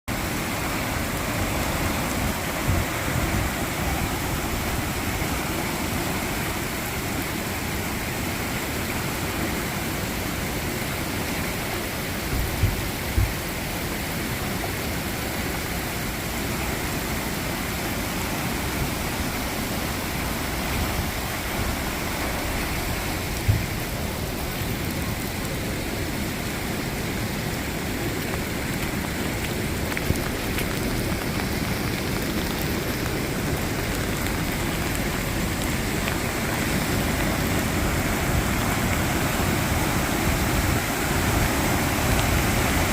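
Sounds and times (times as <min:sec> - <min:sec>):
rain splashing on surfaces: 0:00.1 - 0:42.9.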